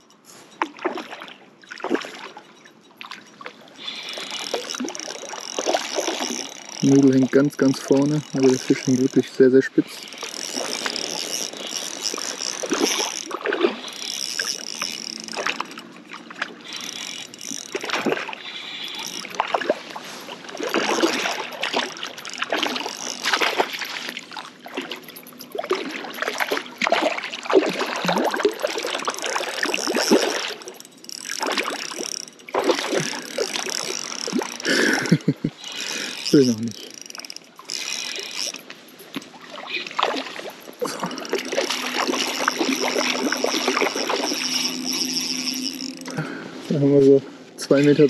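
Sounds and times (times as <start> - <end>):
fish thrashing and splashing: 0.6 - 46.6.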